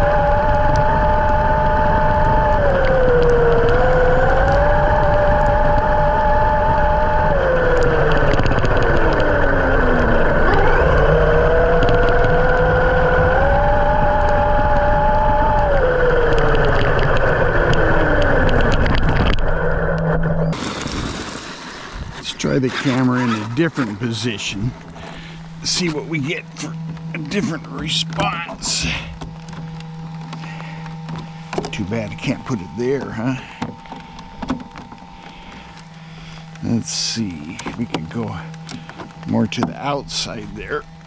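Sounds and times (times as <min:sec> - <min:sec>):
electric motor whining: 0:00.0 - 0:41.0
rough low rumble: 0:00.0 - 0:41.0.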